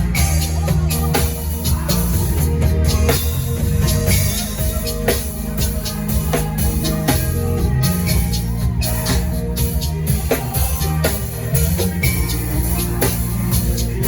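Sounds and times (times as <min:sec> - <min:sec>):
drum kit beat: 0:00.0 - 0:14.0
held chords: 0:00.0 - 0:14.0
low bass notes: 0:00.0 - 0:14.0.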